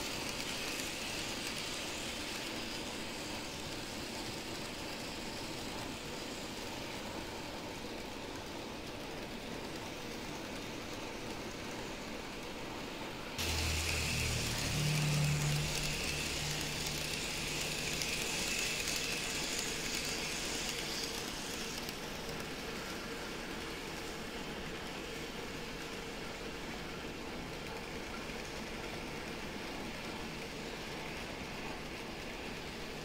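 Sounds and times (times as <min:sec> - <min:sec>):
model train motor hum: 0:00.0 - 0:33.0.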